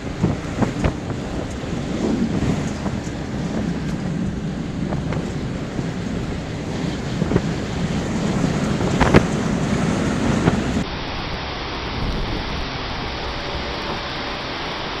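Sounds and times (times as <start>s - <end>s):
rain-like hiss: 0.0s - 15.0s
rush of wind and water: 0.0s - 15.0s
wind buffeting microphone: 0.0s - 15.0s.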